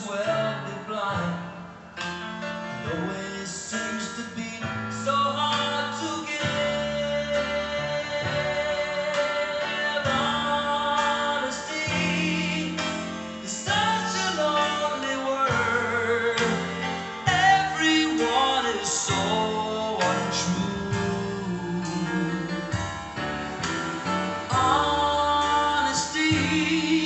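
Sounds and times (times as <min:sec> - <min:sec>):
song with singer and guitar: 0:00.0 - 0:27.0.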